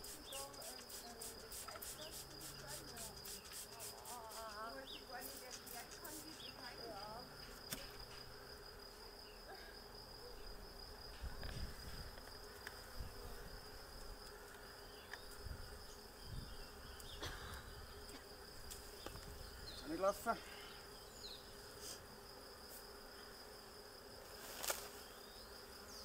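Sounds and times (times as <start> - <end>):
bee swarm buzzing: 0.0 - 26.0.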